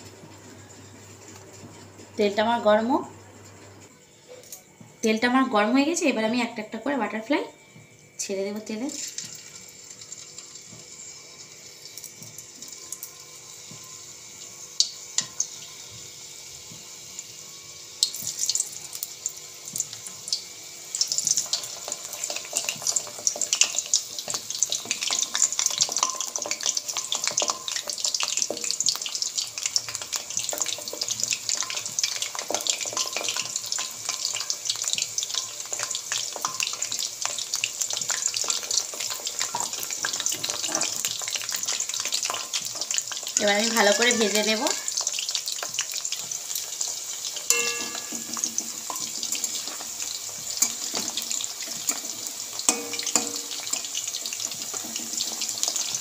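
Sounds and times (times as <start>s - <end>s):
hot oil sizzling and crackling: 0.0s - 3.6s, 4.5s - 56.0s.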